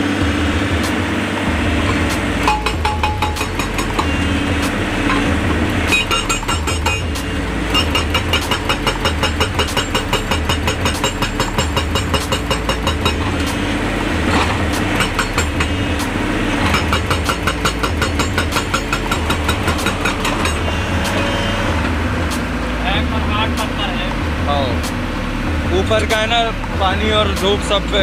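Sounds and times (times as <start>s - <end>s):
diesel engine humming: 0.0s - 28.0s
hydraulic rock breaker hammering: 0.1s - 22.8s.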